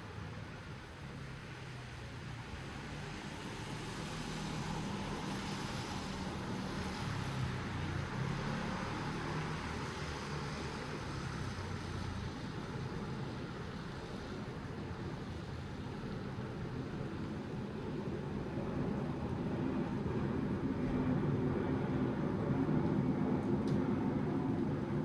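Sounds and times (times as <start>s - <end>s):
light rain falling: 0.0s - 21.0s.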